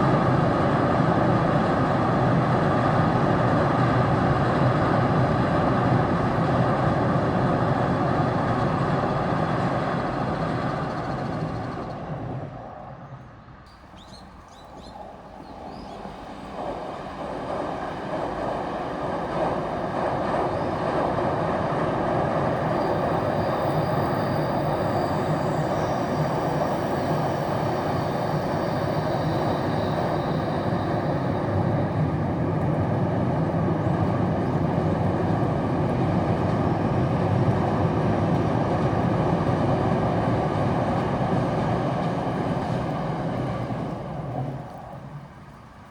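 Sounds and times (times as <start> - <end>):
train rumbling over steel bridge: 0.0 - 45.9.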